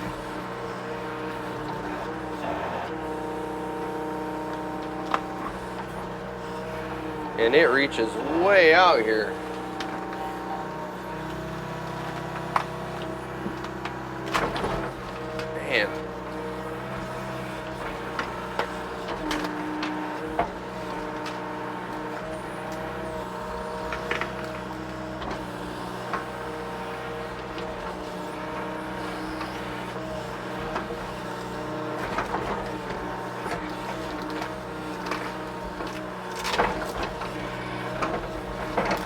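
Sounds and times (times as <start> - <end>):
excavator diesel engine under load: 0.0 - 39.0.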